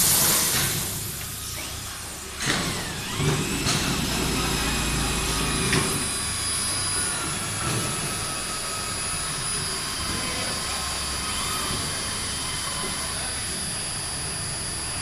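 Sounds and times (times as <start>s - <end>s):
cnc router whining: 0.0s - 15.0s.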